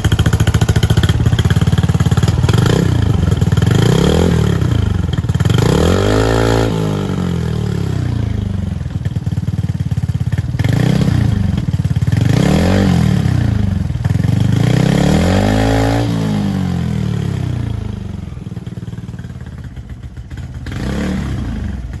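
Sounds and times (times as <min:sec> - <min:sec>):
scooter engine revving: 0:00.0 - 0:22.0.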